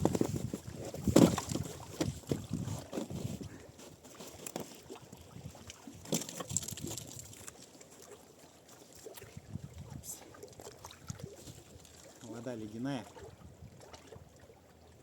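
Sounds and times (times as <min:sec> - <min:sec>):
creek water splashing: 0:00.0 - 0:15.0.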